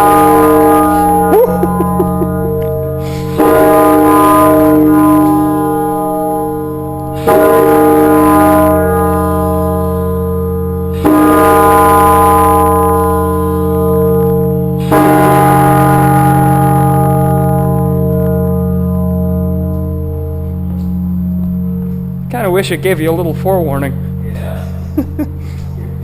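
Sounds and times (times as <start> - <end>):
large tower bell striking: 0.0 - 26.0.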